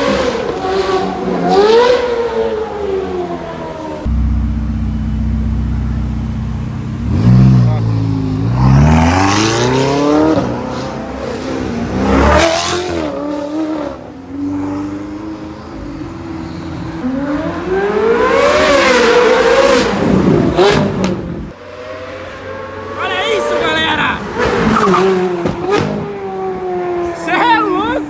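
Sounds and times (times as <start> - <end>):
car engines accelerating hard: 0.0 - 4.5, 5.1 - 27.6.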